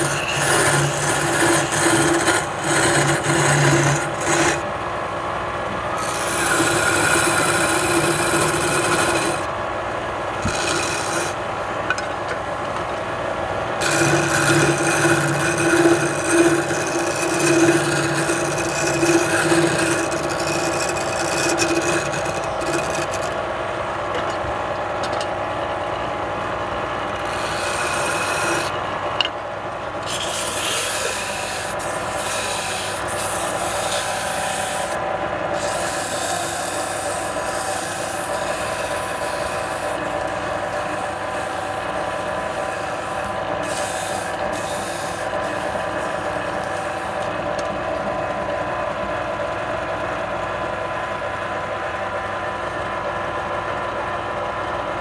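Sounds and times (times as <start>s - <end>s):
tool scraping spinning wood: 0.0s - 4.8s, 5.8s - 9.6s, 10.3s - 23.6s, 26.9s - 53.6s
wood lathe motor hum: 0.0s - 24.8s, 25.6s - 54.5s.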